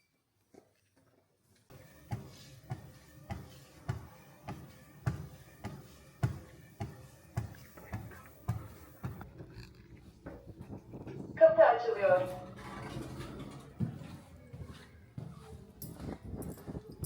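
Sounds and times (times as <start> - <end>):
footsteps walking: 0.5 - 9.4, 10.0 - 12.7, 13.3 - 17.0.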